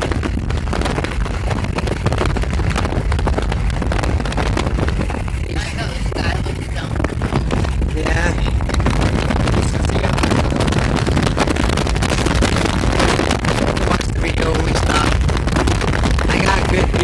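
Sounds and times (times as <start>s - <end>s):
vehicle road rumble: 0.0s - 17.0s
wind buffeting microphone: 0.0s - 17.0s.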